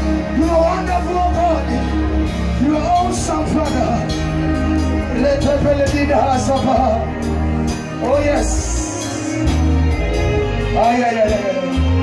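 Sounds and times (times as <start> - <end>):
band playing worship music: 0.0 - 12.0.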